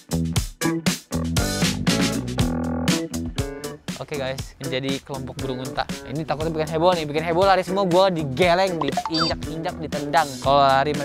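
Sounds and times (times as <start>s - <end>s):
upbeat funk music: 0.0s - 3.8s, 4.6s - 11.0s.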